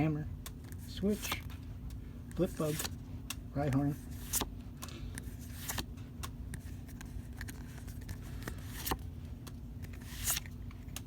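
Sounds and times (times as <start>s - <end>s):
low steady hum: 0.0s - 11.0s
cards rustling: 0.5s - 1.7s, 2.3s - 11.0s.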